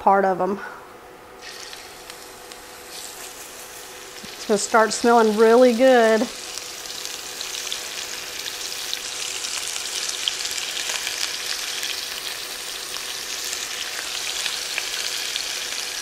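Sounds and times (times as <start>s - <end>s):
faint steady hum: 0.0s - 16.0s
meat sizzling in oil: 1.4s - 16.0s.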